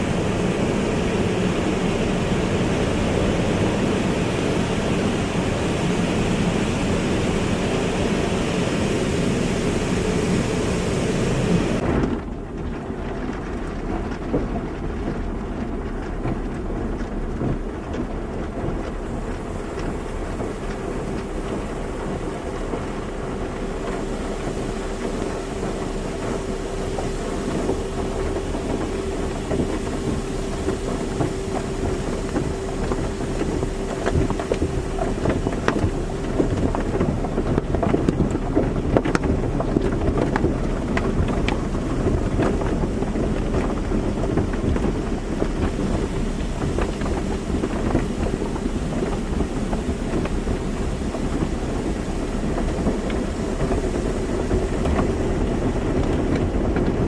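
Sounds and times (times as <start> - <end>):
steady machine hum: 0.0 - 57.0
water spraying on a car: 0.0 - 57.0.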